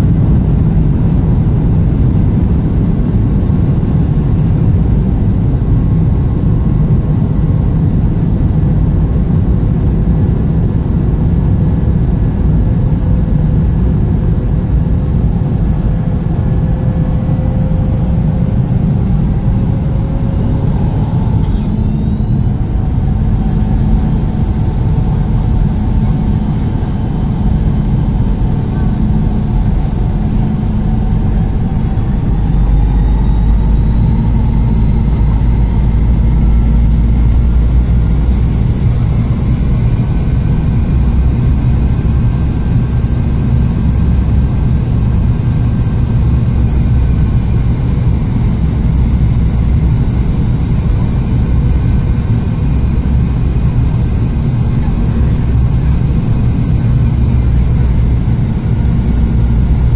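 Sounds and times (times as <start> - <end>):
airflow rumble in aircraft cabin: 0.0 - 59.9
jet engine whine: 0.0 - 59.9.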